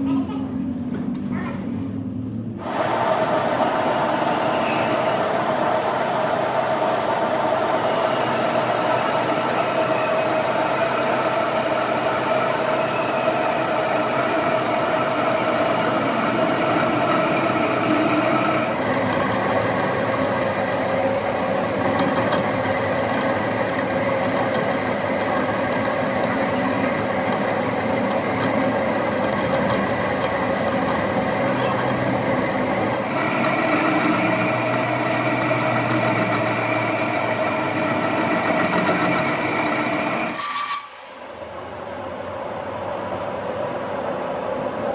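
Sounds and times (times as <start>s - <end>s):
workshop machinery running: 2.0s - 44.9s.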